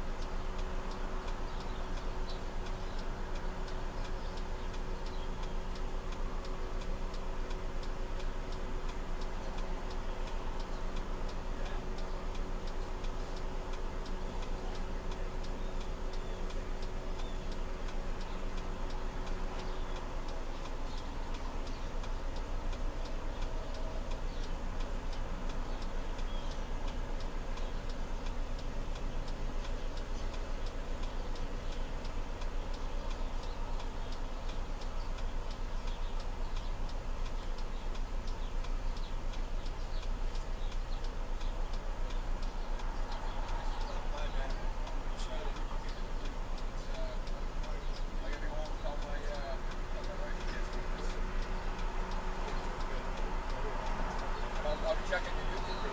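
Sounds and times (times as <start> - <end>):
steady ticking: 0.0 - 55.9.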